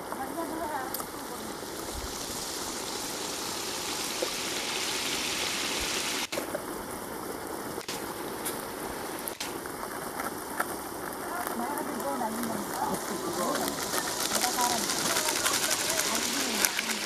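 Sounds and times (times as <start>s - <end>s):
chicken frying sizzling hiss: 0.0s - 17.0s.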